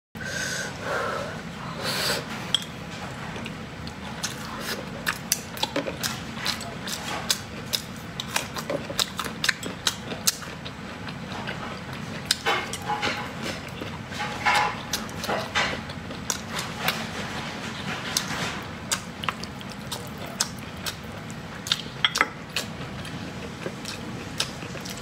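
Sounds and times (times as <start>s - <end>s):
person eating and chewing: 3.0s - 25.0s.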